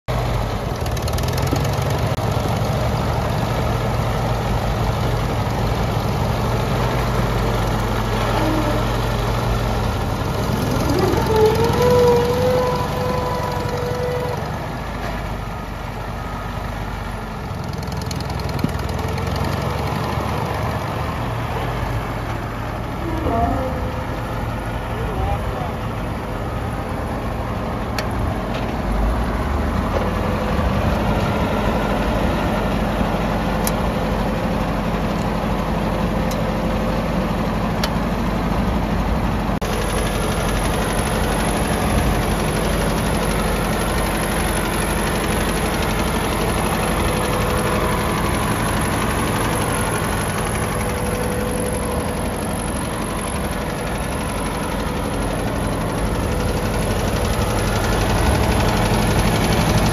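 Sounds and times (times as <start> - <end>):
tractor engine idling: 0.1 - 59.9.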